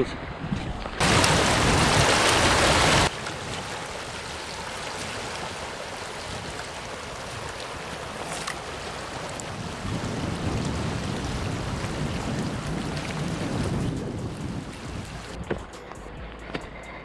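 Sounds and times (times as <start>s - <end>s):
river water rushing: 1.0s - 15.4s.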